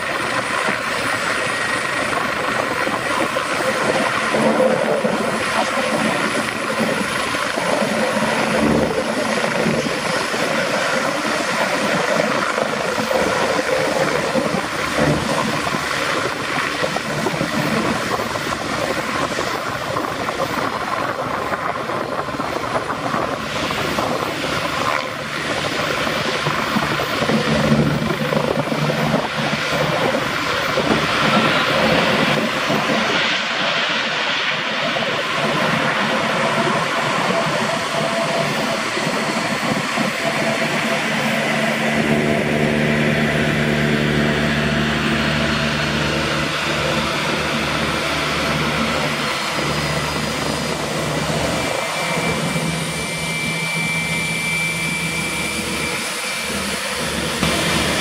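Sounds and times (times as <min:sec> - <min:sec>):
helicopter turbines whining: 0:00.0 - 0:58.0
rotor blades pulsing: 0:00.0 - 0:58.0
thin high whine: 0:00.0 - 0:58.0.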